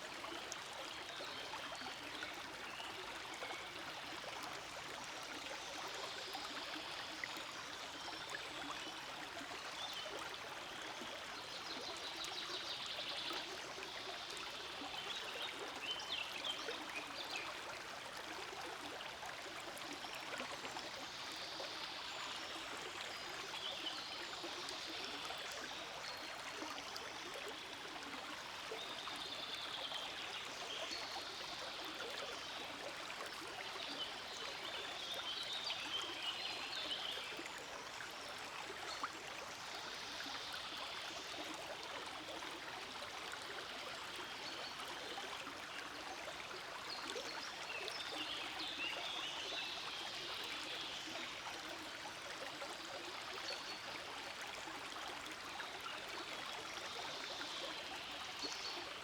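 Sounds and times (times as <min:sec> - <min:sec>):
small stream babbling: 0:00.0 - 0:59.0.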